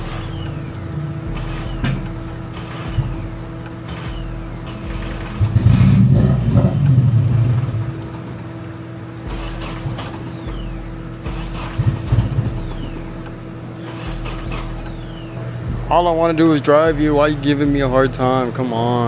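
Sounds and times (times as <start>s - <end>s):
car engine cranking: 0.0s - 19.0s.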